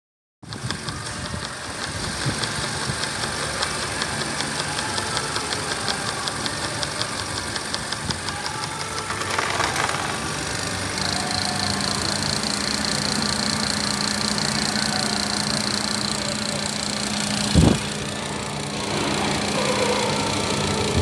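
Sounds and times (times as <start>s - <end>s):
light even ticking: 0.4s - 9.9s, 10.5s - 18.8s
car engine idling: 0.4s - 21.0s.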